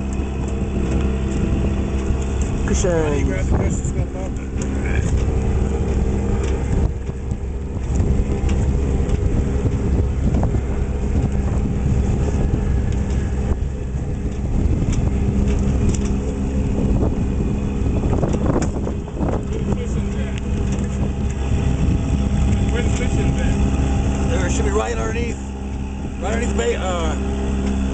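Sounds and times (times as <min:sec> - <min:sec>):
boat engine running: 0:00.0 - 0:27.9
low rumble: 0:00.0 - 0:27.9.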